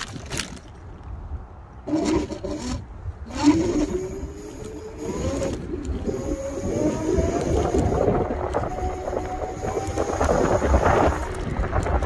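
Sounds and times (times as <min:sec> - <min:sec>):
wind and road rumble: 0:00.0 - 0:12.0
electric motor whining: 0:01.8 - 0:12.0.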